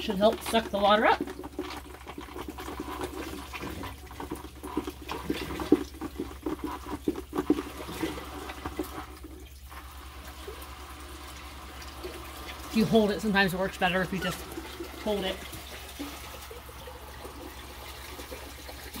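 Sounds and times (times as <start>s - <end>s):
filter motor hum: 0.0s - 19.0s
water gurgling and sloshing: 0.0s - 19.0s.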